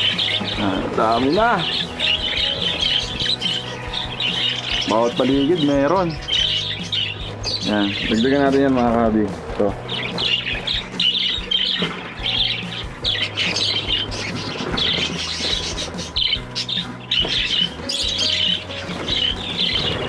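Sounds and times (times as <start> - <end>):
small birds chattering and chirping: 0.0 - 20.0.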